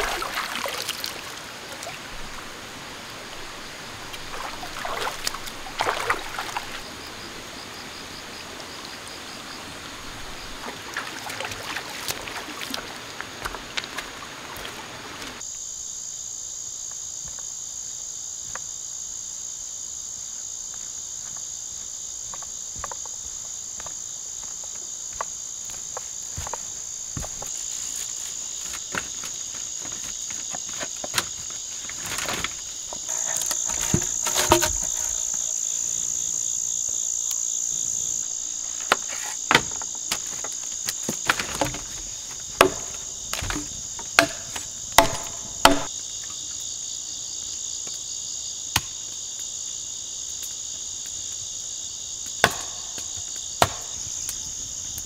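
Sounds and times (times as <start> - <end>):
crickets and insects trilling: 0.0 - 55.0.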